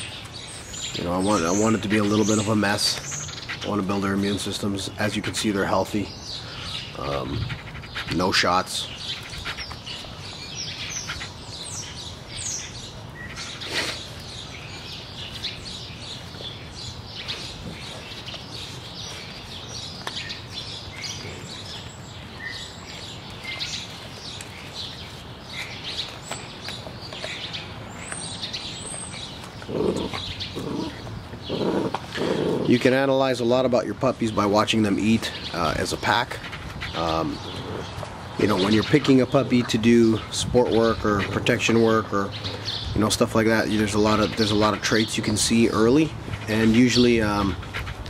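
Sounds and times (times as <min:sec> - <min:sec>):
puppies gnawing and crunching: 0:00.0 - 0:48.0
small birds chirping: 0:00.0 - 0:48.0.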